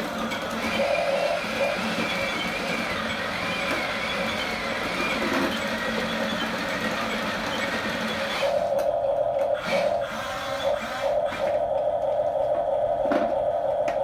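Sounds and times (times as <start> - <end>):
small electric motors whining: 0.0 - 11.8.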